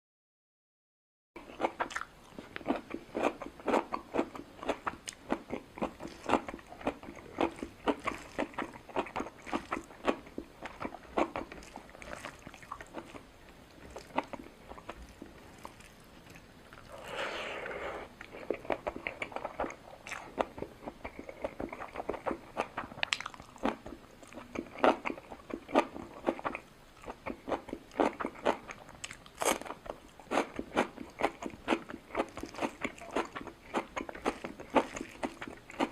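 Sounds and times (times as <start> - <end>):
person chewing food: 1.4 - 35.9.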